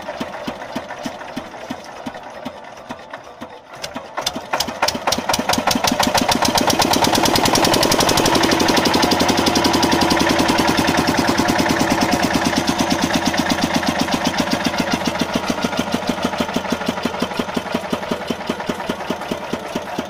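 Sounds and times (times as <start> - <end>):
diesel engine starting and chugging: 0.0 - 20.0.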